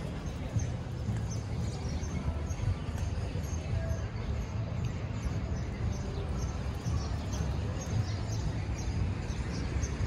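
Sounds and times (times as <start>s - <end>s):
birds chirping: 0.0s - 10.0s
low street rumble: 0.0s - 10.0s.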